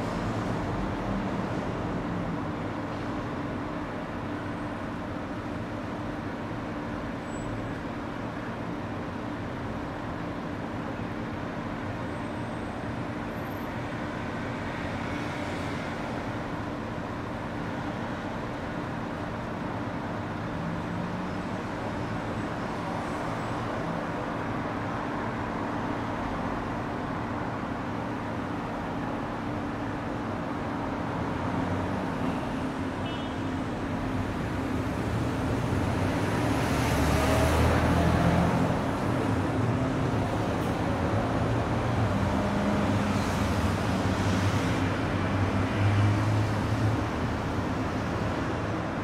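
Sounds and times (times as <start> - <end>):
distant road traffic hum: 0.0 - 49.0.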